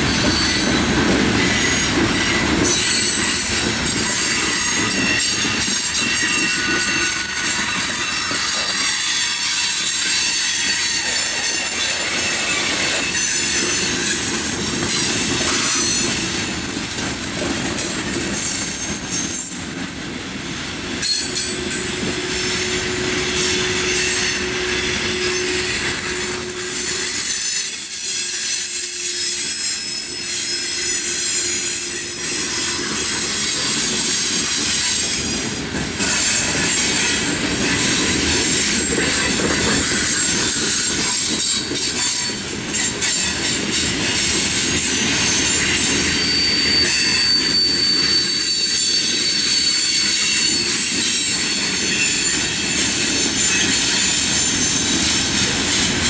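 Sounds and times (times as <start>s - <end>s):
train rolling noise: 0.0s - 56.0s
train wheels squealing: 0.0s - 56.0s.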